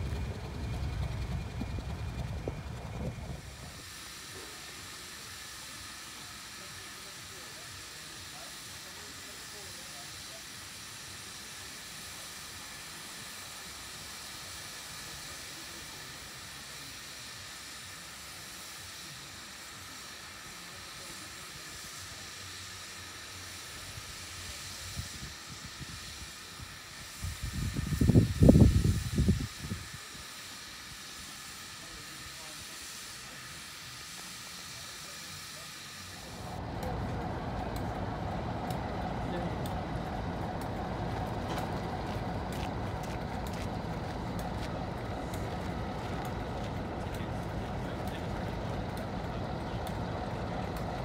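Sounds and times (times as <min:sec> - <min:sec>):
steam hissing: 0:00.0 - 0:51.0.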